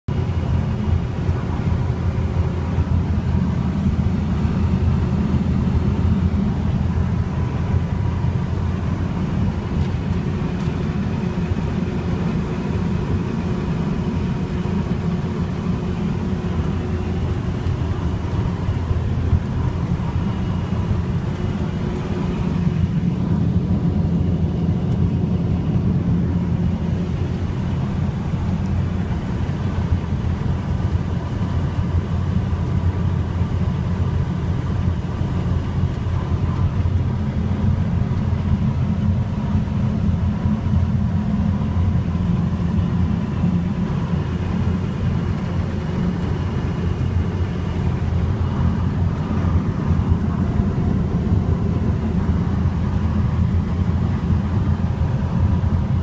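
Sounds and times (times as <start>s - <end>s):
road and wind noise: 0.0s - 56.0s
truck diesel engine droning: 0.1s - 56.0s.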